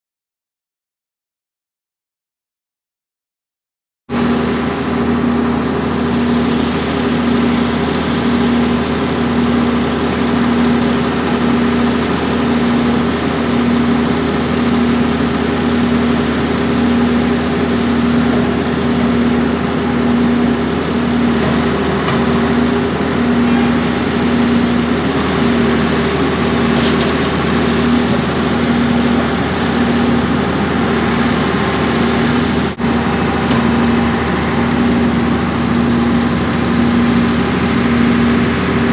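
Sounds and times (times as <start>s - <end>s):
diesel engine running: 4.1s - 38.9s.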